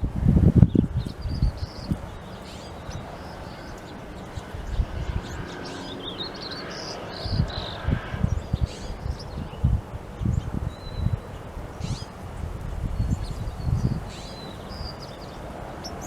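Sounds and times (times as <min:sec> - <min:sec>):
small birds chirping: 0:00.4 - 0:16.0.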